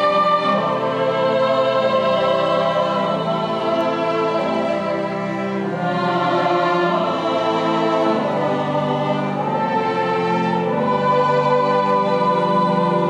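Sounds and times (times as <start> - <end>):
choir singing held chords: 0.0 - 13.0
string ensemble: 0.0 - 13.0.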